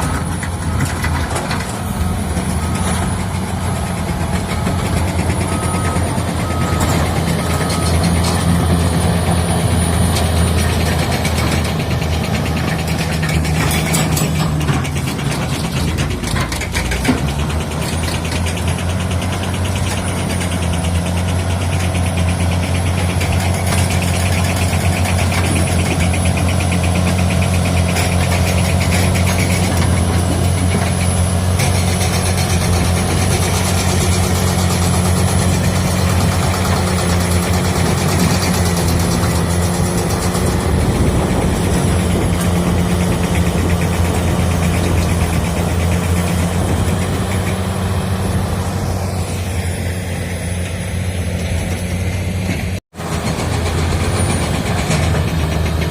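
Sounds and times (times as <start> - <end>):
earthmoving machine diesel drone: 0.0 - 55.9.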